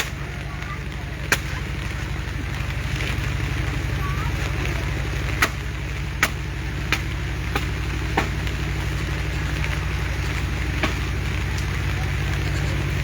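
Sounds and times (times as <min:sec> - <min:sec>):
constant hiss: 0:00.0 - 0:13.0
engine idling: 0:00.0 - 0:13.0.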